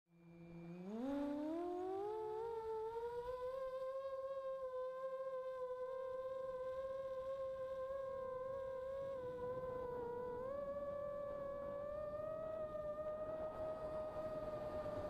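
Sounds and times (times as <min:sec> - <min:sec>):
drone motors whining: 0:00.2 - 0:15.0.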